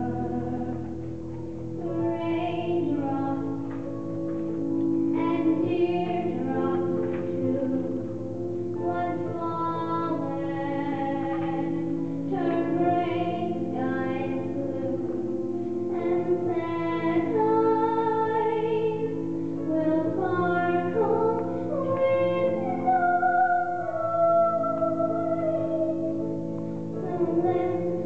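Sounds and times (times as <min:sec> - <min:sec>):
girl singing into a microphone: 0:00.0 - 0:01.1, 0:01.8 - 0:04.1, 0:04.9 - 0:26.3, 0:26.9 - 0:28.0.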